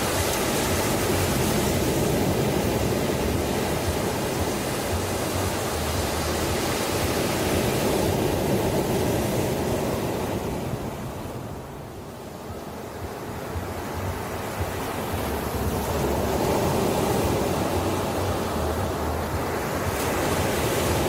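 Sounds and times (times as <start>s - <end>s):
ocean surf breaking: 0.0s - 21.0s.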